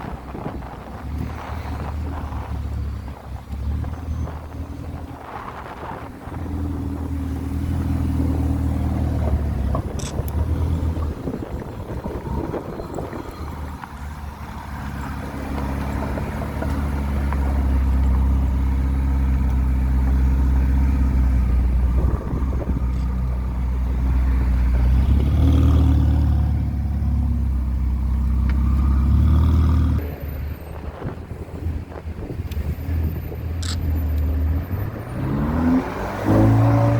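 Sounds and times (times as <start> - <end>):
sports car engine running: 0.3 - 30.2.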